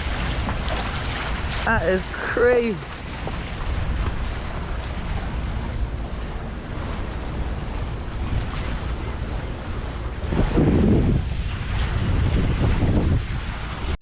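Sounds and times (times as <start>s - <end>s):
water washing: 0.0s - 14.0s
wind buffeting microphone: 0.0s - 14.0s.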